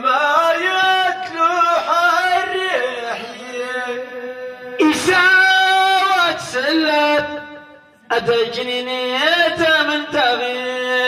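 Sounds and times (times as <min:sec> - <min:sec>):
man chanting into microphone: 0:00.0 - 0:11.0.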